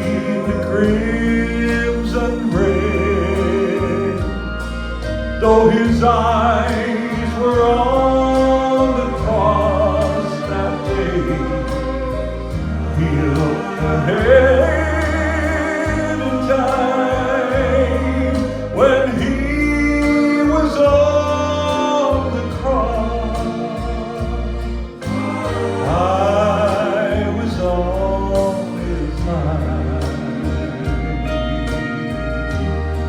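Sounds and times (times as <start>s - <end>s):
instrumental accompaniment: 0.0s - 33.0s
solo singer: 0.0s - 33.0s.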